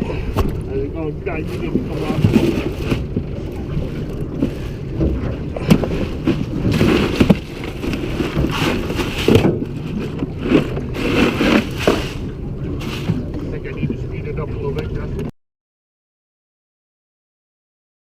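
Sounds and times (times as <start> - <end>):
boat motor rumbling: 0.0 - 15.3.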